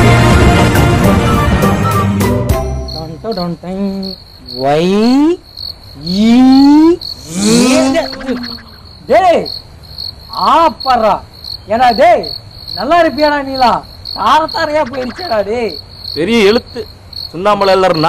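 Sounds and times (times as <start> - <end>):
crickets chirping: 2.6 - 18.0.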